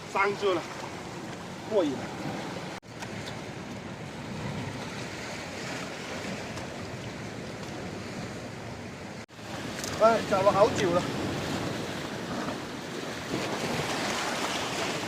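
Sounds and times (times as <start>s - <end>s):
sea waves against rocky shore: 0.0s - 15.0s.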